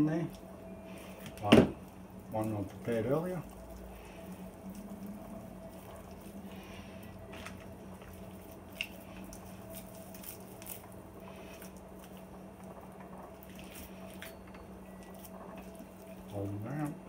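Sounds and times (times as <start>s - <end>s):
steady low hum: 0.0s - 17.0s
hands squishing stuffing: 0.3s - 17.0s.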